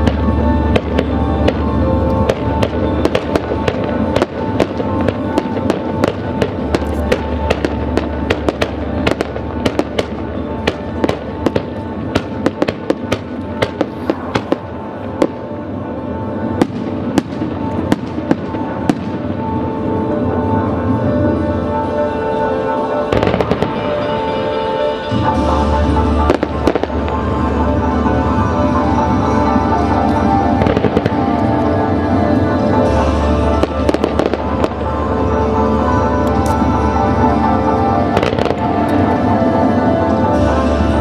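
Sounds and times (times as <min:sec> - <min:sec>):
fireworks bursting and crackling: 0:00.0 - 0:41.0
loud show music: 0:00.0 - 0:41.0.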